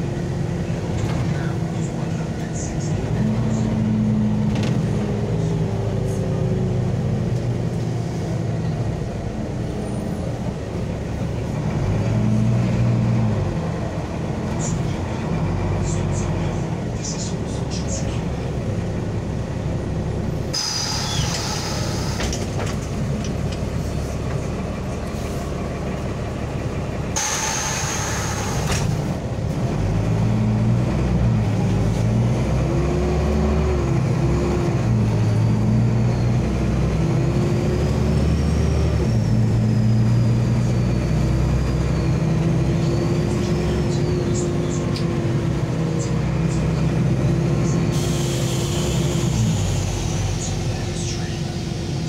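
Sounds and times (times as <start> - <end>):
bus engine drone: 0.0 - 52.0.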